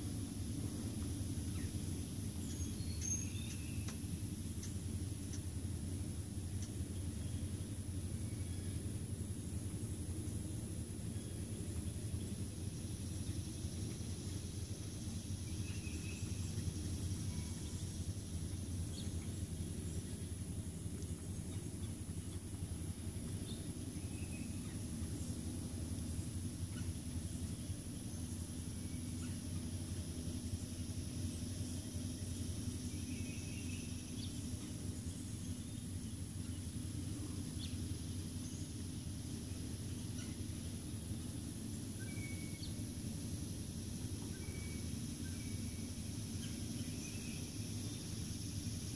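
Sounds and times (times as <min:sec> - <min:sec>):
faint chirp: 0:00.0 - 0:48.9
high insect drone: 0:00.0 - 0:48.9
low steady rumble: 0:00.0 - 0:48.9.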